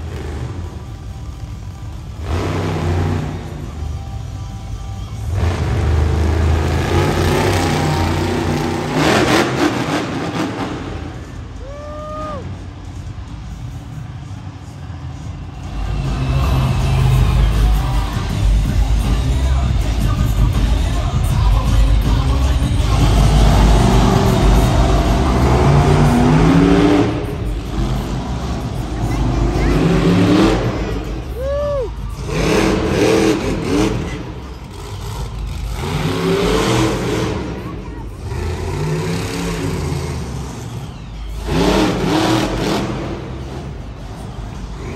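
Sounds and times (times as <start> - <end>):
truck engine revving: 0.0 - 11.8, 12.4 - 44.9.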